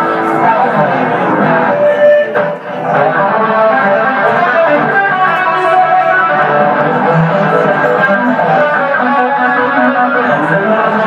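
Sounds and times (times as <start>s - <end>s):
loud electric guitar lead: 0.0s - 11.0s.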